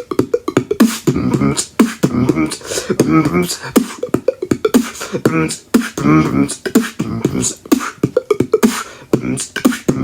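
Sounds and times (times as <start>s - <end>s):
beatboxing: 0.0s - 10.0s
hummed pitched notes: 0.0s - 10.0s.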